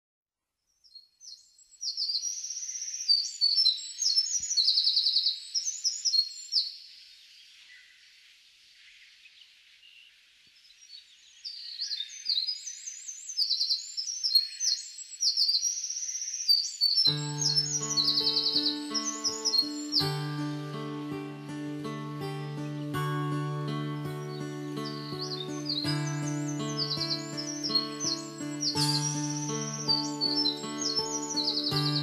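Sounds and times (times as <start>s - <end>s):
songbirds chirping and trilling: 0.7s - 32.0s.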